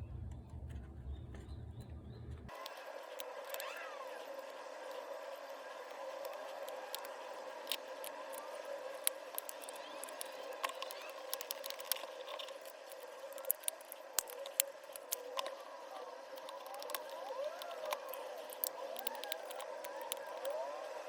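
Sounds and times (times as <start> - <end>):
steady hum: 0.0 - 21.0
small parts clicking and tapping: 2.4 - 20.6.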